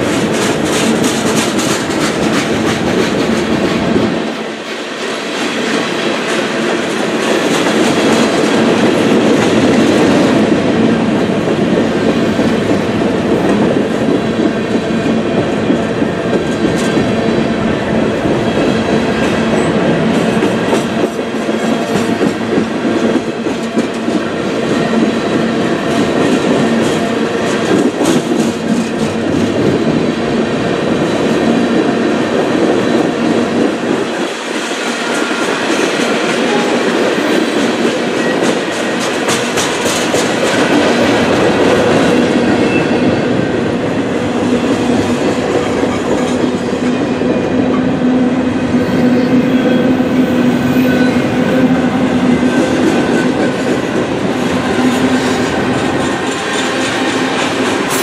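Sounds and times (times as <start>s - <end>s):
clickety-clack over rail joints: 0.0s - 58.0s
freight train wheels rumbling: 0.0s - 58.0s.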